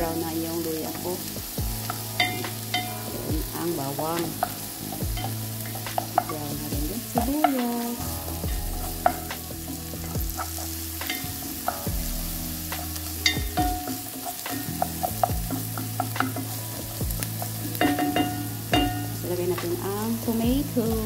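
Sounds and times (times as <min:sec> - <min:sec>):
vegetables sizzling in a frying pan: 0:00.0 - 0:21.0
wooden spatula scraping a pan: 0:01.8 - 0:19.2.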